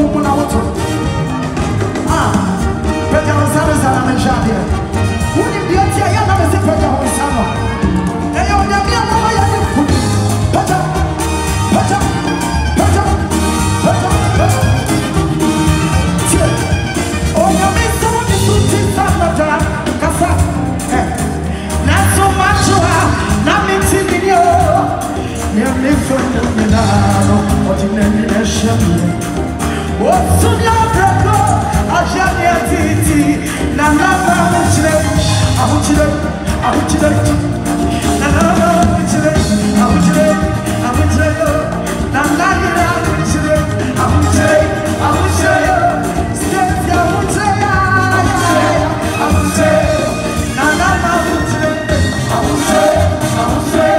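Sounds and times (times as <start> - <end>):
drum kit beat: 0.0 - 53.9
gospel band playing: 0.0 - 53.9.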